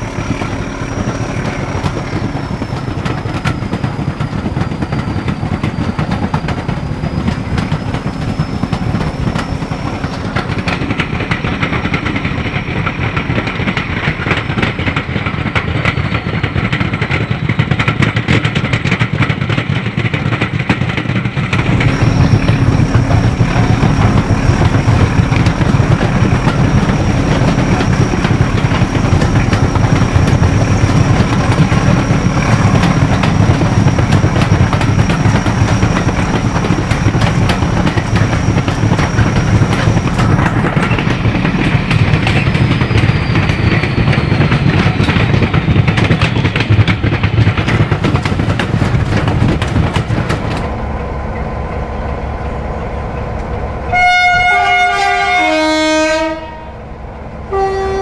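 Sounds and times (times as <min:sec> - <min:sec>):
train wheels clattering over joints: 0:00.0 - 0:54.0
train running rumble: 0:00.0 - 0:58.0.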